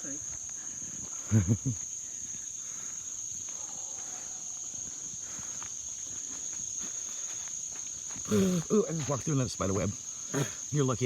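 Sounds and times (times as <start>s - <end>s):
faint footsteps: 0.0s - 9.7s
high-pitched insect chorus: 0.0s - 11.0s.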